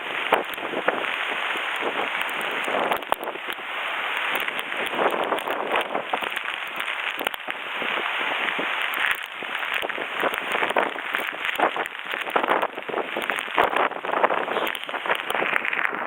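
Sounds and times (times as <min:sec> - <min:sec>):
heavy wind-driven rain: 0:00.0 - 0:16.0.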